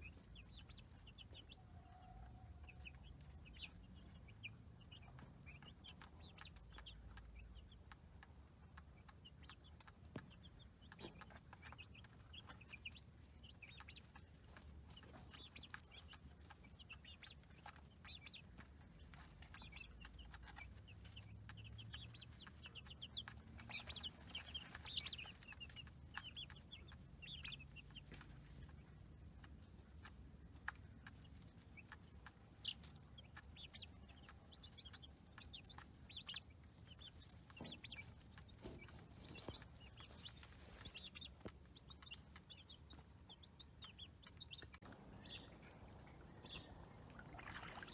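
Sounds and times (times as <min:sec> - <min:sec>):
baby chicks peeping: 0:00.0 - 0:47.9.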